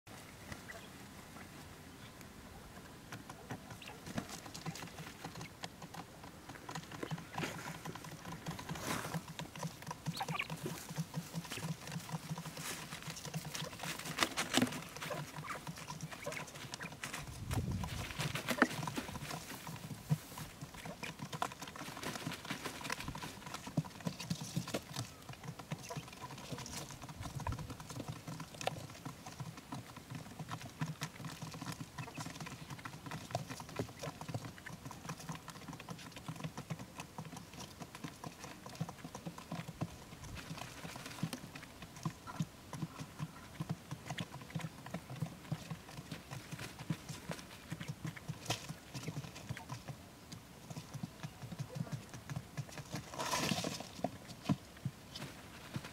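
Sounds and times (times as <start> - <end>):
quail pecking on cardboard: 0.1 - 55.9.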